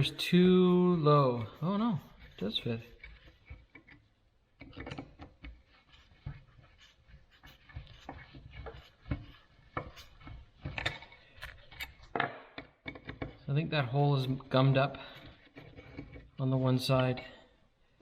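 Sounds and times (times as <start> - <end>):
metal vise parts clicking and scraping: 0.0 - 6.4, 7.7 - 17.1.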